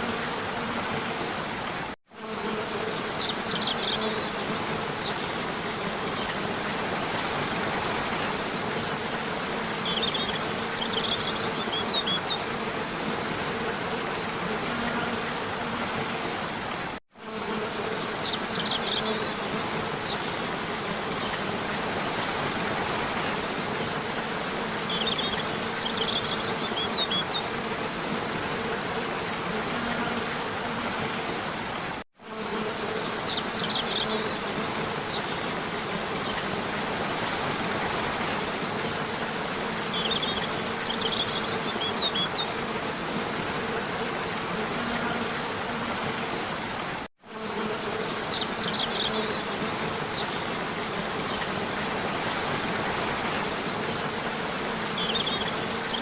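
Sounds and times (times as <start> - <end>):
insect buzzing: 0.0 - 56.0.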